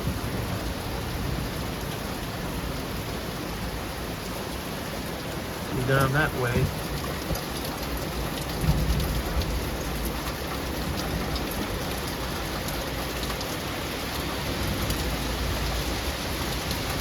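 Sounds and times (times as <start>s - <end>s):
raindrops pattering on hard surfaces: 0.0s - 17.0s.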